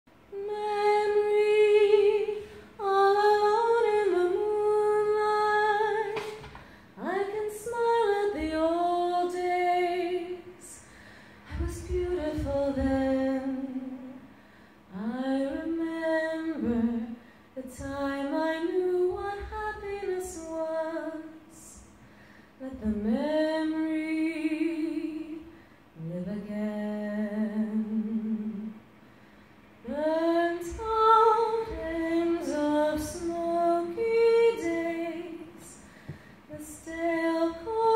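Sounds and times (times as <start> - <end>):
woman singing unaccompanied: 0.2 - 10.8, 11.5 - 14.3, 14.9 - 22.0, 22.6 - 28.8, 29.8 - 35.9, 36.5 - 37.9.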